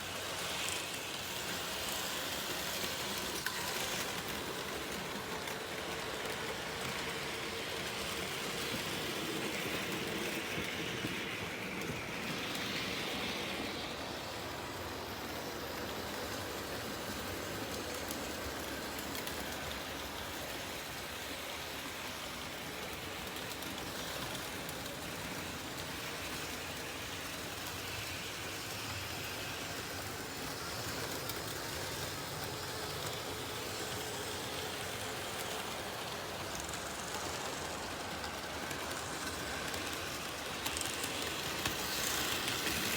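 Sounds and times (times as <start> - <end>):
model train motor whirring: 0.0 - 42.9
wheels rolling on rails: 0.0 - 42.9.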